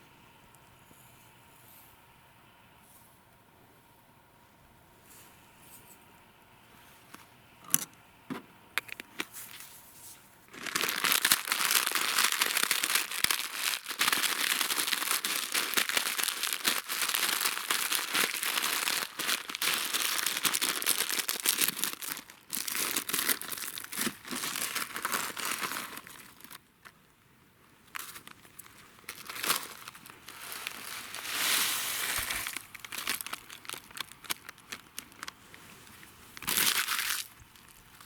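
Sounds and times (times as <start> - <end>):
crinkling and rustling with crackles: 6.7 - 38.0.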